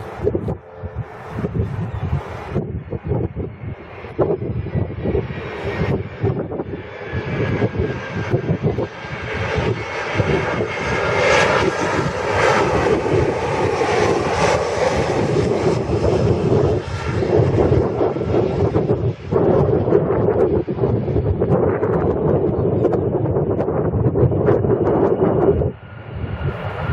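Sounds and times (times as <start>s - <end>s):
jet engines roaring: 0.0s - 26.9s.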